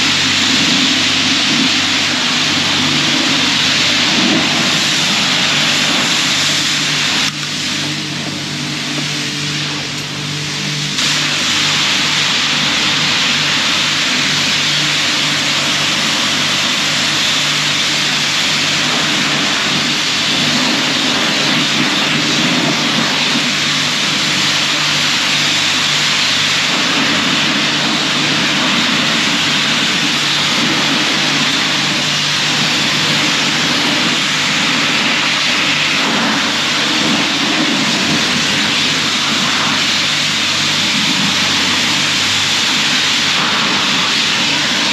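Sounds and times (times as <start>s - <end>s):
pressure washer spraying metal: 0.0s - 44.9s
steady low hum: 0.0s - 44.9s.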